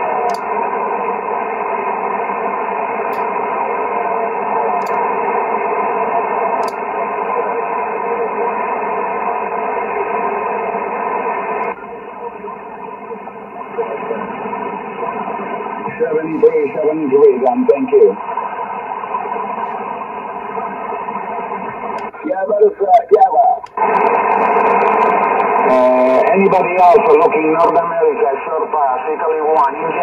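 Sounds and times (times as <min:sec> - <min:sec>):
faint steady tones: 0:00.0 - 0:30.0
radio static hiss: 0:00.0 - 0:30.0.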